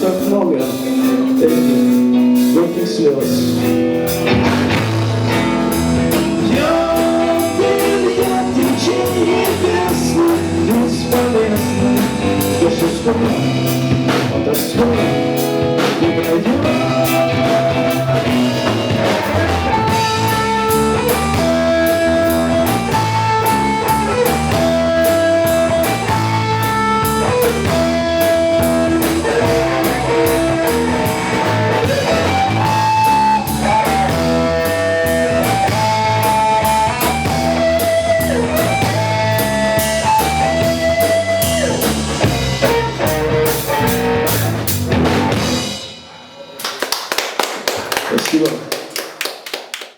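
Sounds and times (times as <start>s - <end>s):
bass guitar: 0.0s - 46.4s
drum kit: 0.0s - 49.1s
rhythm guitar: 0.0s - 49.9s
lead guitar bending notes: 3.2s - 45.7s.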